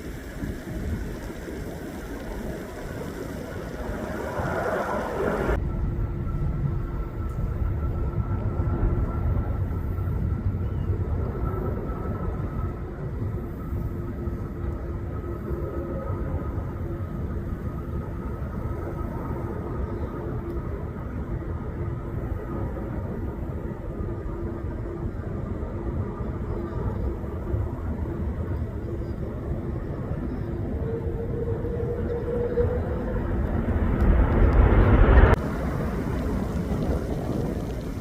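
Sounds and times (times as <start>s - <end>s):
jet engines rumbling and whining: 0.0s - 38.0s.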